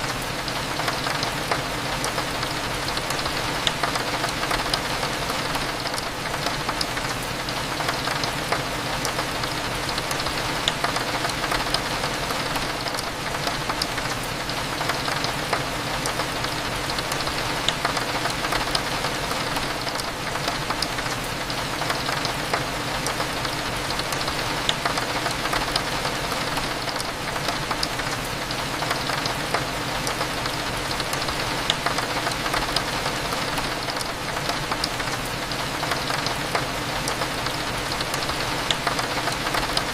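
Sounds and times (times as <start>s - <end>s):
rain against a window: 0.0s - 39.9s.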